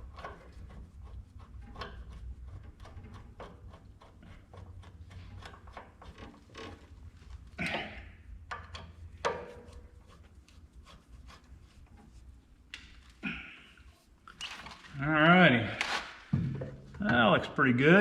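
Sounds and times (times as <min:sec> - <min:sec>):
light clicks and knocks of tools: 0:00.0 - 0:14.9.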